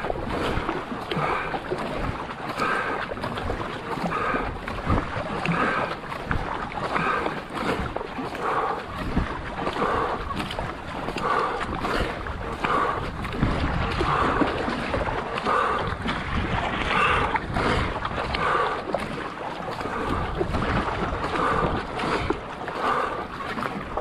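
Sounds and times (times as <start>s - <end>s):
wind on microphone: 0.0s - 2.3s, 3.1s - 24.0s
paddle strokes in water: 0.0s - 24.0s.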